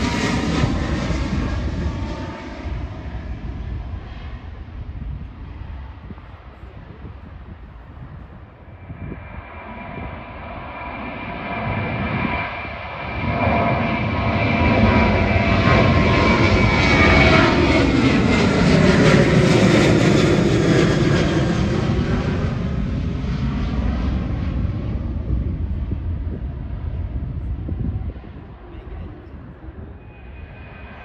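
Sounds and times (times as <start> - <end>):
jet engines climbing overhead: 0.0 - 31.0.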